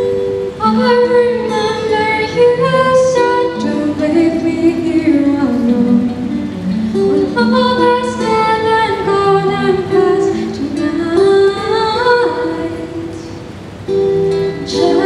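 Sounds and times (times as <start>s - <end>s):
girl singing into a microphone: 0.0s - 13.6s, 14.3s - 15.0s
acoustic guitar: 0.0s - 15.0s.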